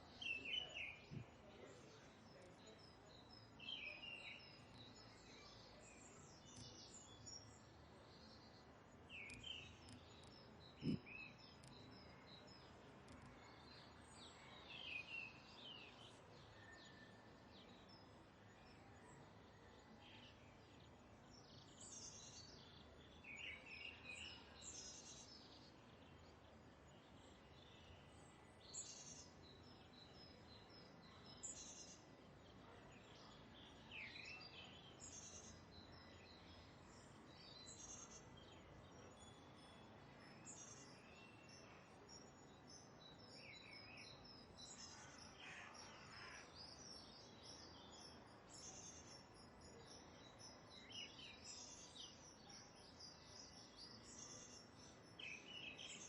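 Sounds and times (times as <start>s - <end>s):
faint bird chirps and trills: 0.0s - 56.0s.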